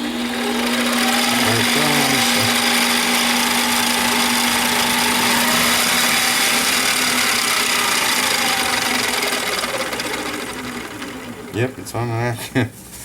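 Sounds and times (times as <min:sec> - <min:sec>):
lathe motor and gear whine: 0:00.0 - 0:12.3.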